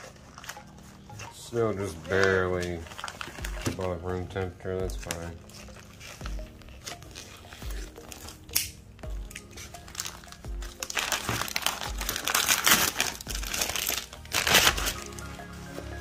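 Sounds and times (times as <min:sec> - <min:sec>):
plastic bag crinkling: 0:00.0 - 0:08.5, 0:09.1 - 0:15.4
background music with steady beat: 0:00.0 - 0:16.0.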